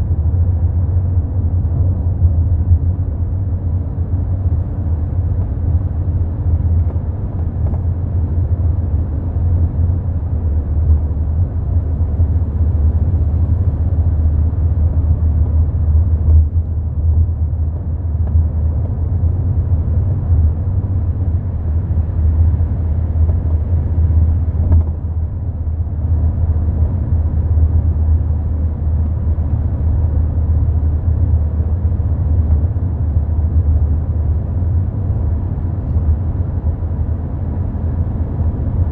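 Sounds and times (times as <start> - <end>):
tyres and suspension rumbling: 0.0 - 38.9.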